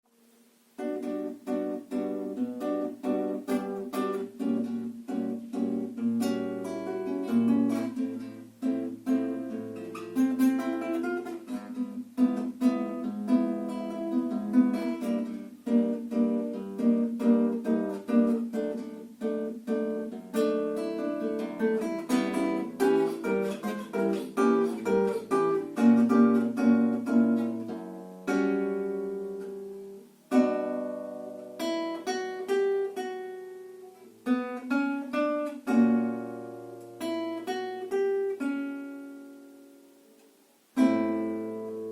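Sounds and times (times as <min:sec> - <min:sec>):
solo guitar playing: 0:00.1 - 0:41.9.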